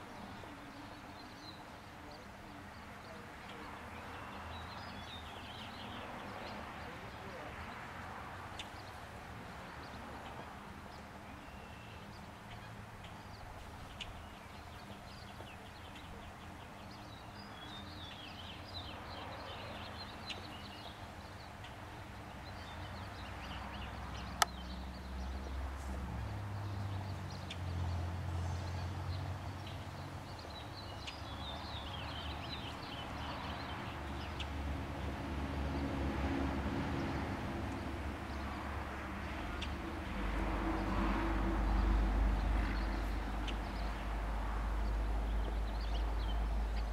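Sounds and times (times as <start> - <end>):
small birds chirping: 0.0 - 35.8, 36.8 - 46.9.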